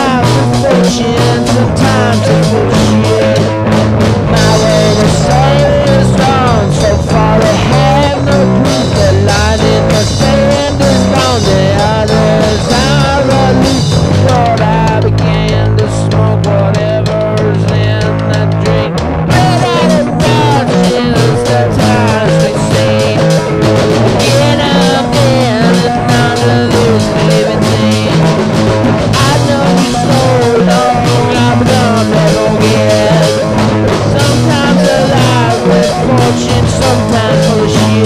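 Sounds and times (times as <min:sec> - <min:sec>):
drum kit steady beat: 0:00.0 - 0:38.0
folk-rock band music: 0:00.0 - 0:38.0.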